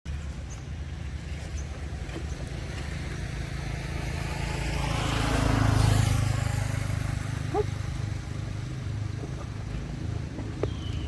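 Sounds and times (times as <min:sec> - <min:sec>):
vehicle engine humming: 0:00.1 - 0:11.0.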